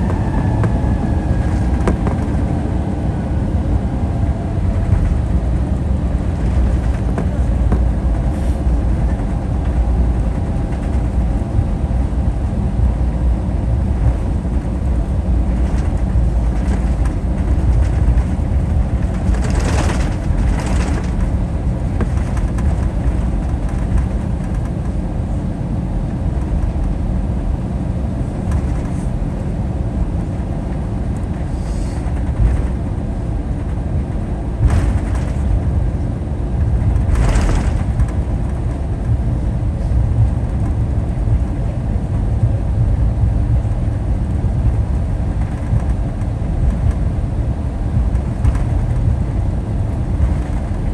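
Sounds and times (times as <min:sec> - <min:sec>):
idling jet engines rumbling: 0:00.0 - 0:50.9.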